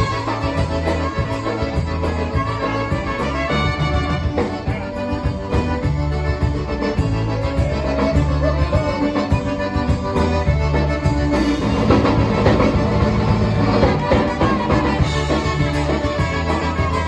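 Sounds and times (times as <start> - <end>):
polka band playing: 0.0 - 17.0.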